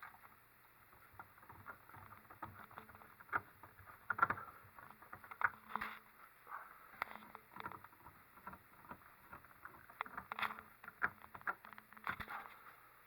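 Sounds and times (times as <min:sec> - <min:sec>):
small clicks and scrapes: 0:00.0 - 0:12.9.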